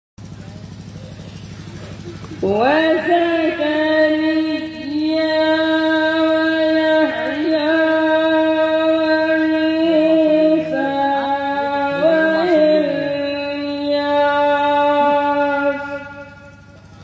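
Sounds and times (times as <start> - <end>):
person singing over a pa: 2.6 - 16.3.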